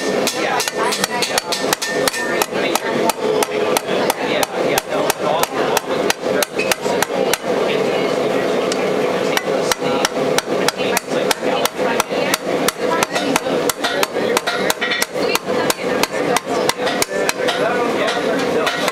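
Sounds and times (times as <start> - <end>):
hammer striking copper sheet: 0.0 - 7.6, 8.7 - 18.9.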